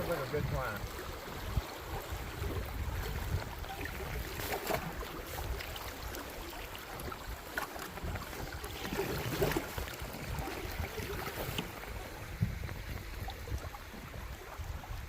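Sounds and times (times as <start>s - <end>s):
paddle splashes: 0.0s - 15.0s
river water flowing and splashing: 0.0s - 15.0s
wind rumble on microphone: 0.0s - 15.0s.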